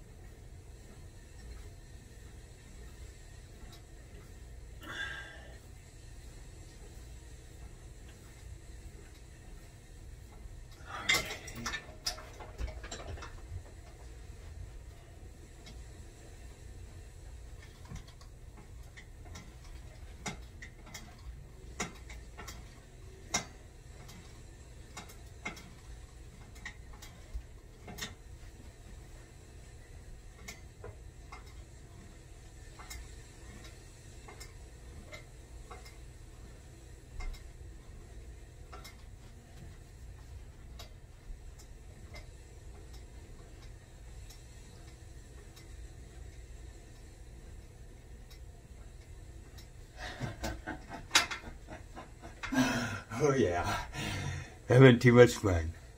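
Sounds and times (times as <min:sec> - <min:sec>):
exercise machine pulley clicks: 0:00.0 - 0:55.9
low steady hum: 0:00.0 - 0:55.9.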